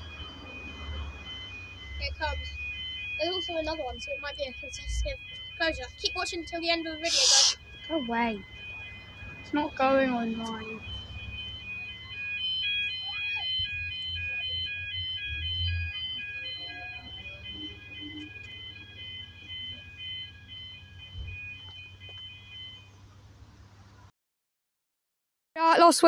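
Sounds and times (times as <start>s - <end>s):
two-tone crossing alarm: 0.0s - 23.9s.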